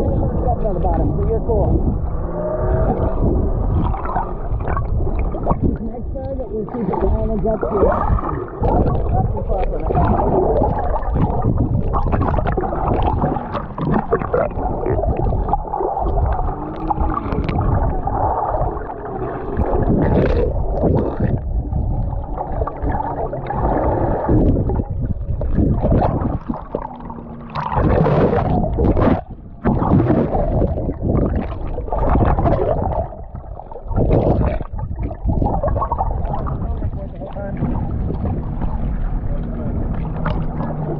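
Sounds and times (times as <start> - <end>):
muffled underwater water sloshing: 0.0 - 40.9.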